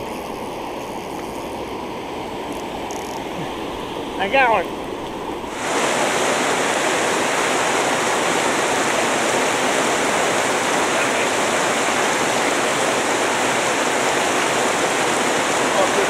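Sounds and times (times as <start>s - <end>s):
river rapids roaring: 0.0s - 16.0s.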